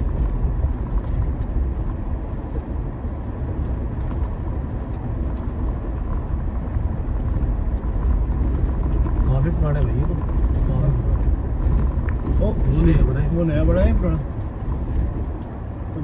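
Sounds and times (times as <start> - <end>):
engine and tyres rumbling: 0.0 - 16.0.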